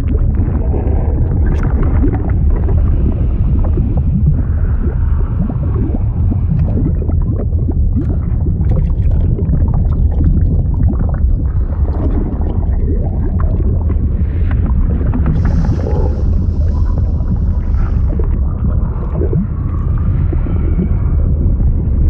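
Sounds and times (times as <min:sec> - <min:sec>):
heavy low rumble: 0:00.0 - 0:22.0
liquid bubbling and gurgling: 0:00.0 - 0:22.0.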